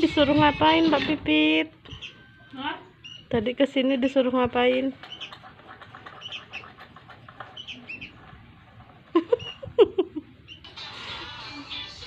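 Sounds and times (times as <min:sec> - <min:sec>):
birds chirping: 0:00.0 - 0:03.7, 0:04.9 - 0:12.0.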